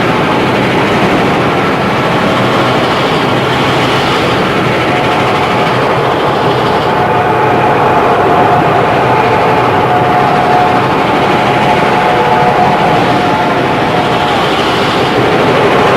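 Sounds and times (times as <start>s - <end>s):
cartoon train running: 0.0s - 15.9s.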